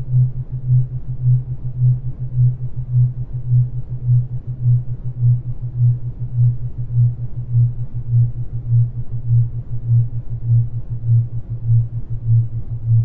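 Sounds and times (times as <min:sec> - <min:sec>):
pulsing electronic hum: 0:00.0 - 0:13.0.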